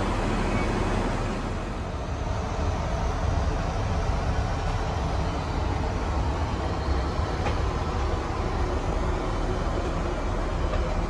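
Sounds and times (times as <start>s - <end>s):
airplane cabin rumble and hiss: 0.0s - 11.0s.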